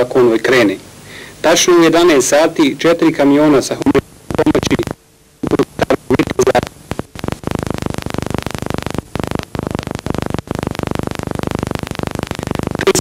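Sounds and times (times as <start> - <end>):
buzzing videotape static: 0.0 - 13.0.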